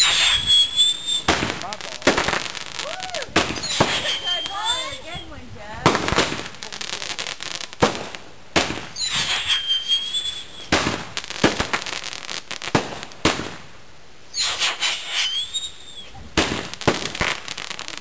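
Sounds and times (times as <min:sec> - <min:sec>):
firework whistles: 0:00.0 - 0:13.6, 0:14.3 - 0:18.0
firework bangs and crackles: 0:00.0 - 0:18.0.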